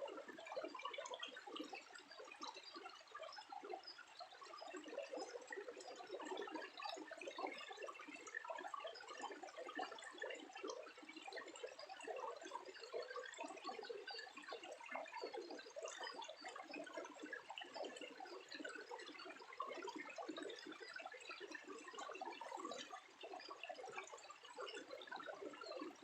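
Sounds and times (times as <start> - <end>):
water trickling and gurgling: 0.0 - 26.0.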